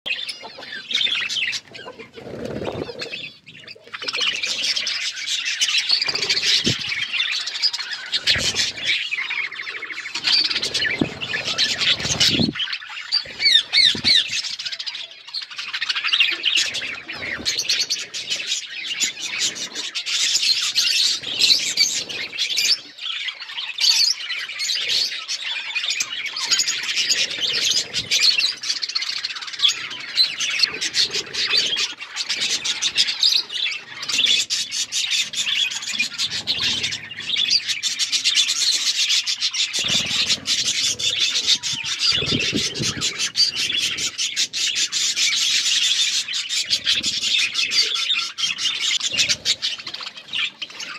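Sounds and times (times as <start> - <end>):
budgerigars chattering: 0.1 - 50.9.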